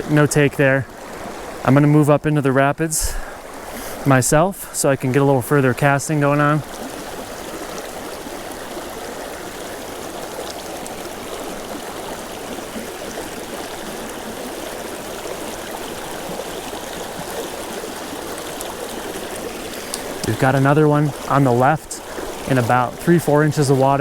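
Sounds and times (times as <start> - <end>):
creek rushing over rapids: 0.0 - 24.0.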